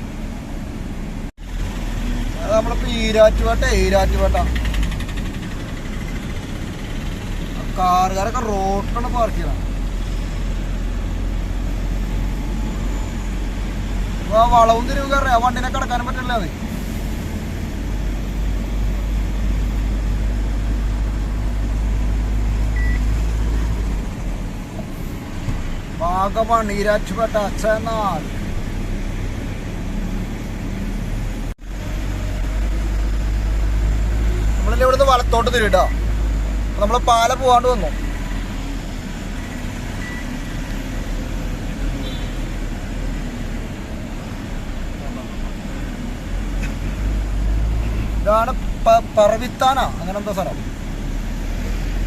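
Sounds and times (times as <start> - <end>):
road noise: 0.0 - 52.0
truck diesel engine drone: 0.0 - 52.0.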